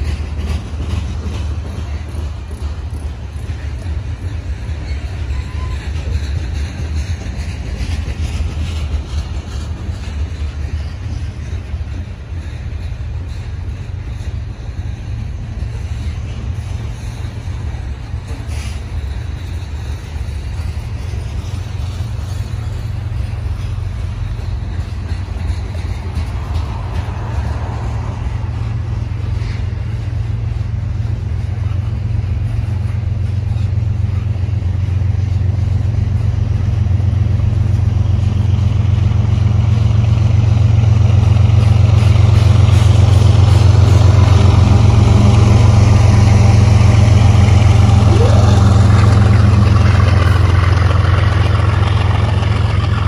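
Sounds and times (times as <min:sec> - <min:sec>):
diesel locomotive engine drone: 0:00.0 - 0:53.0
train wheels rumbling on rails: 0:00.0 - 0:53.0.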